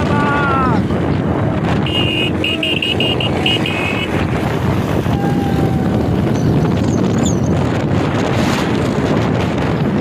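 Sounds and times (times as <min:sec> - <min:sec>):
motorcycle running: 0:00.0 - 0:10.0
road noise: 0:00.0 - 0:10.0
wind rushing over microphone: 0:00.0 - 0:10.0.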